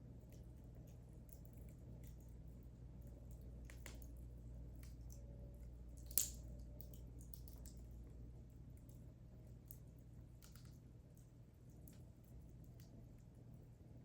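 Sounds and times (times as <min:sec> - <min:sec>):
low steady hum: 0:00.0 - 0:14.0
wood fire crackling: 0:00.0 - 0:14.0.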